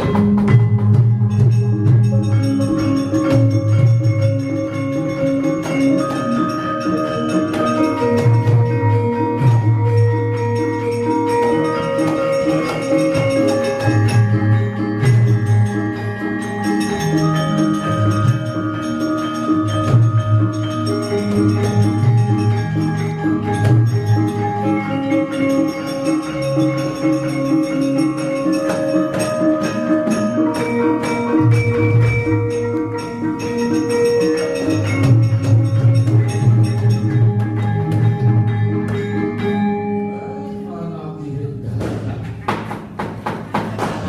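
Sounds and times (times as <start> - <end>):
hand drums: 0.0 - 39.9, 41.8 - 44.0
gongs and metallophones ringing: 0.0 - 41.1.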